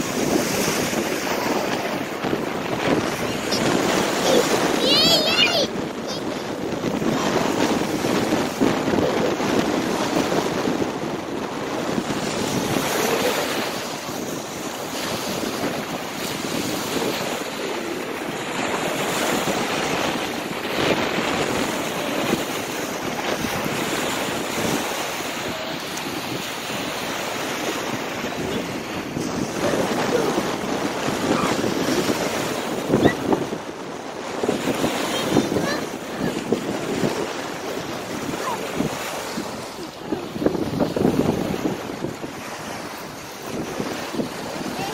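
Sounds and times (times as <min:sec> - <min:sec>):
small waves washing on shore: 0:00.0 - 0:44.9
wind on microphone: 0:00.0 - 0:44.9.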